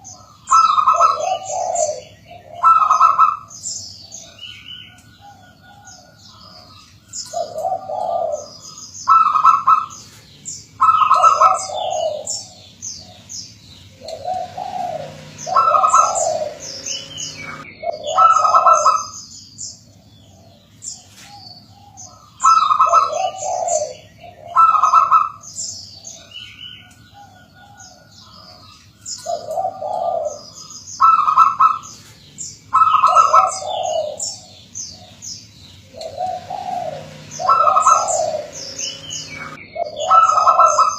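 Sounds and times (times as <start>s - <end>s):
doves cooing: 0.0s - 19.2s, 19.8s - 40.9s
small birds chirping: 0.0s - 40.9s.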